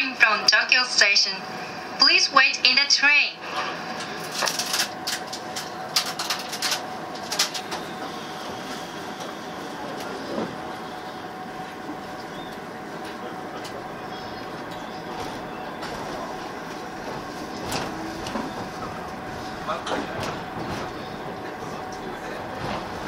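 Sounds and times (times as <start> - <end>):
train hum: 0.0 - 23.0.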